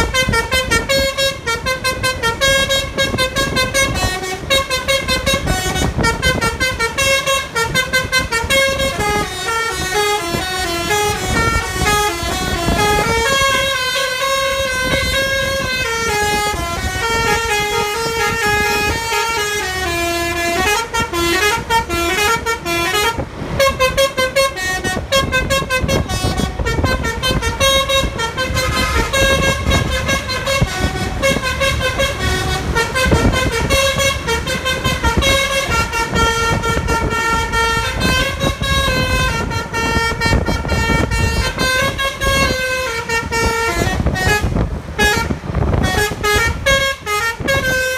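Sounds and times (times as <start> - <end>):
bus musical horn melody: 0.0 - 47.9
low engine rumble: 0.0 - 47.9.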